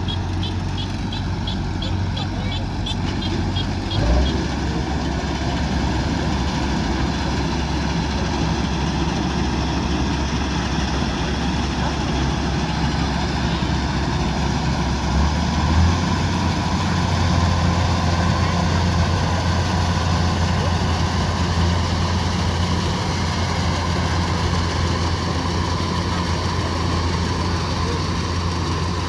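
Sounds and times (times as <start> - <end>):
combine harvester diesel engine: 0.0 - 29.0.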